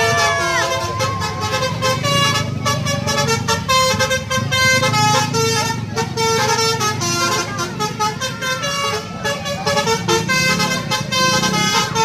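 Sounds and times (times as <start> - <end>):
engine and traffic rumble: 0.0 - 12.0.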